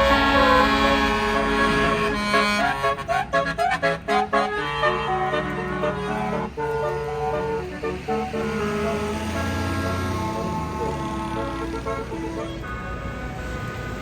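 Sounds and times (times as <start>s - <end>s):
low bus engine rumble: 0.0s - 14.0s
musical air horn playing a tune: 0.0s - 14.0s.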